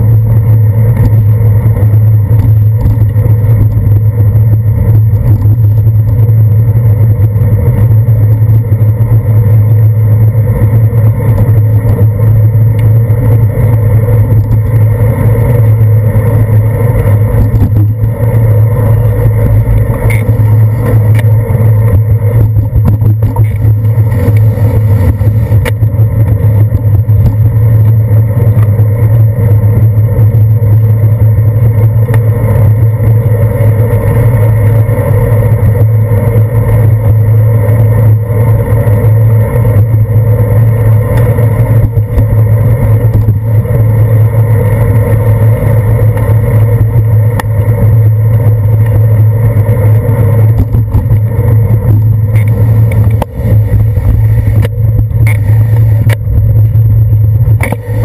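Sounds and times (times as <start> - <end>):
bicycle rolling over wet pavement: 0.0 - 58.0
car traffic: 0.0 - 58.0
constant low hum: 0.0 - 58.0
wind noise: 0.0 - 58.0.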